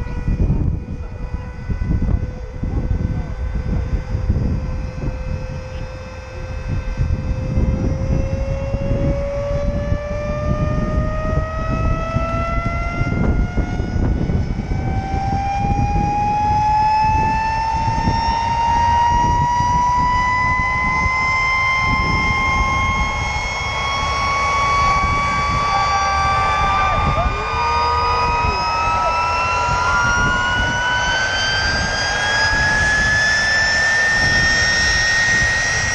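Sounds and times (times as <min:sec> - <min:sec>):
jet turbine engine spooling up: 0:00.0 - 0:35.9.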